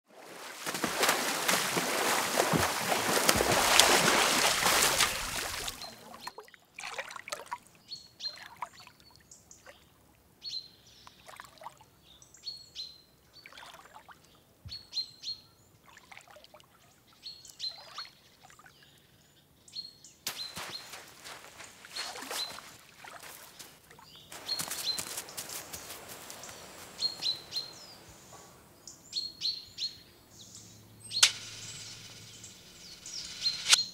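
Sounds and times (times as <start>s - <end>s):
small birds chirping: 3.7s - 6.8s, 7.4s - 33.9s.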